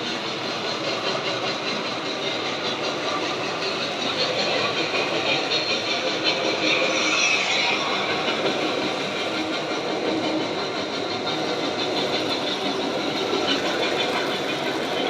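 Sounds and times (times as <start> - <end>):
model locomotives running: 0.0 - 15.0
train noise from record: 0.0 - 15.0.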